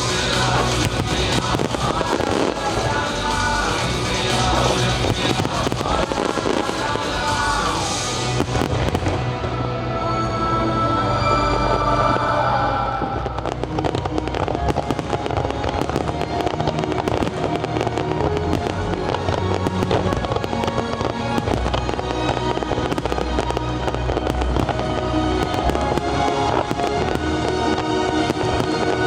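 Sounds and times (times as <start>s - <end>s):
fireworks crackling and banging: 0.0s - 10.3s, 13.2s - 29.0s
loud music soundtrack: 0.0s - 29.0s.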